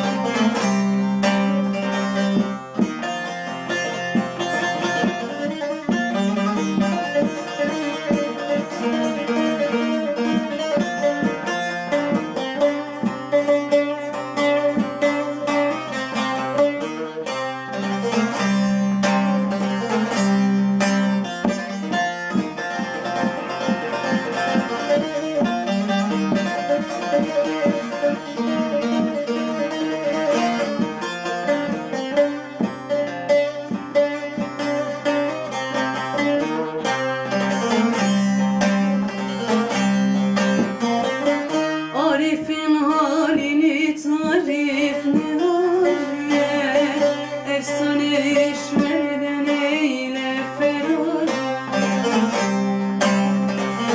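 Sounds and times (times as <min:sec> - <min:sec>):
plucked lute melody: 0:00.0 - 0:53.9.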